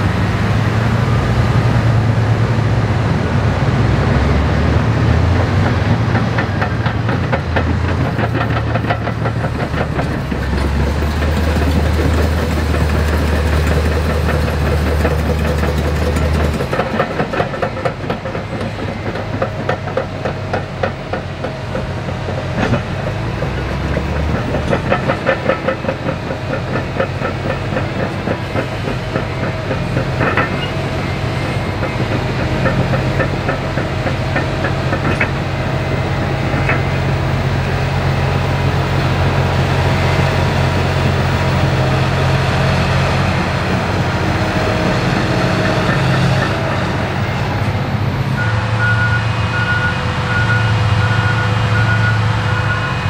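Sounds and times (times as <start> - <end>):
heavy diesel engine drone: 0.0 - 53.0
steel tracks clanking: 4.9 - 53.0.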